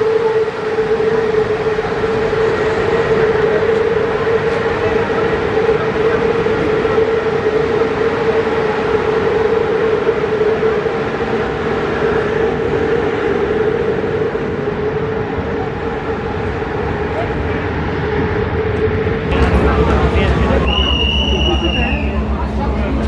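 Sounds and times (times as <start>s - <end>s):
constant rumble: 0.0s - 23.0s
train steady hum: 0.0s - 23.0s.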